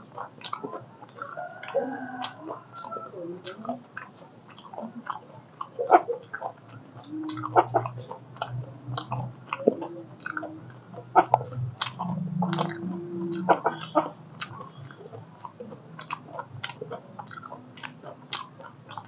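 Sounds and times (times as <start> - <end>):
chewing with wet mouth clicks: 0.0 - 19.0
low steady hum: 0.0 - 19.0.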